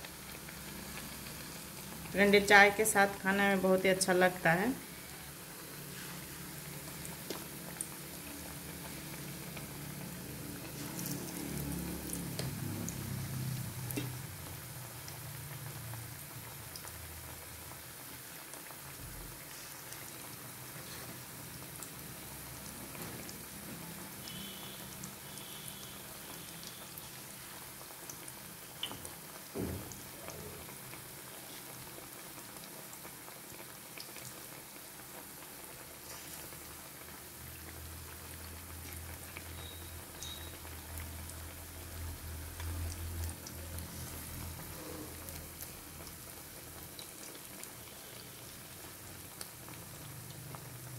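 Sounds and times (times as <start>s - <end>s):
hot oil sizzling: 0.0s - 50.9s.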